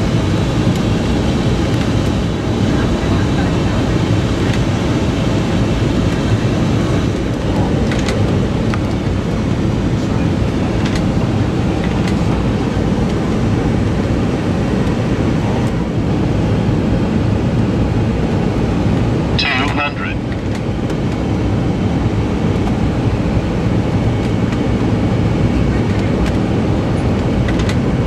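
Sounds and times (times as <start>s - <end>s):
cockpit airflow and engine noise: 0.0s - 28.0s.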